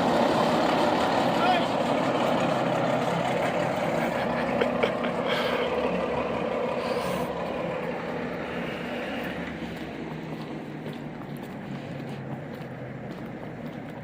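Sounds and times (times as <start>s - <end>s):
diesel locomotive engine running: 0.0s - 14.0s.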